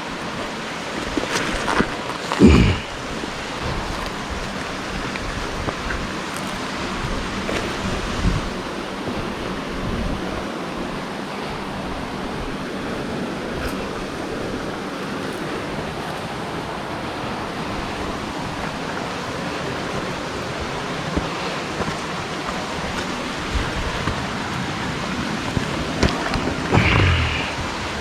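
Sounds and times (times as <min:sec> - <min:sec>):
creek water flowing: 0:00.0 - 0:09.8, 0:10.6 - 0:28.0.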